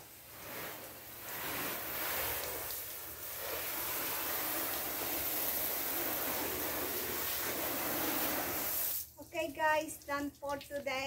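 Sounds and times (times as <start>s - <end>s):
hose nozzle spraying water: 0.0s - 9.2s.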